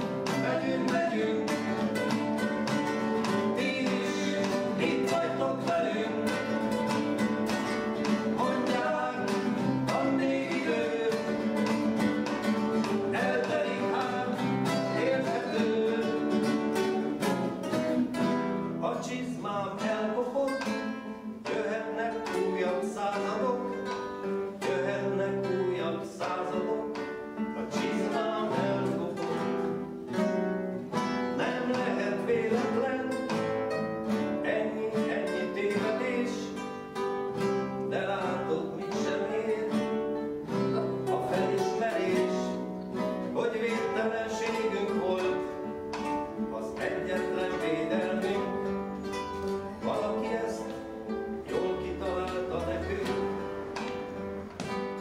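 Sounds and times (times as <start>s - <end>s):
acoustic guitar plucked notes: 0.0s - 55.0s.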